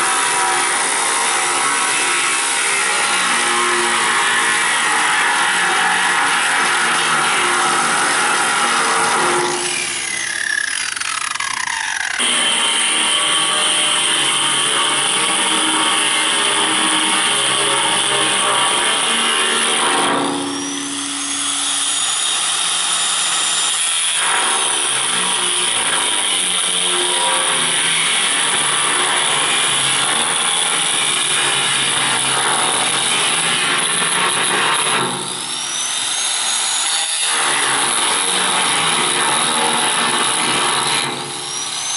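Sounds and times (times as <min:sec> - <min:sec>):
angle grinder on metal: 0:00.0 - 0:41.9.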